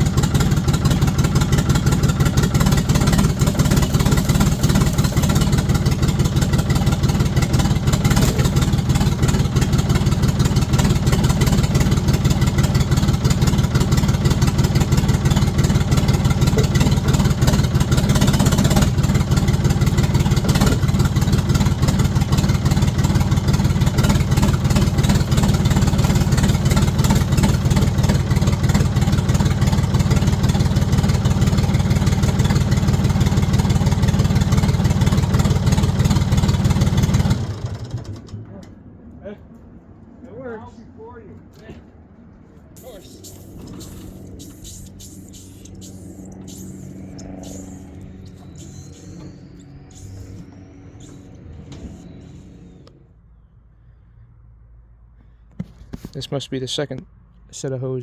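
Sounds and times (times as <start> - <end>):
diesel engine chugging: 0.0 - 38.4, 42.8 - 54.2.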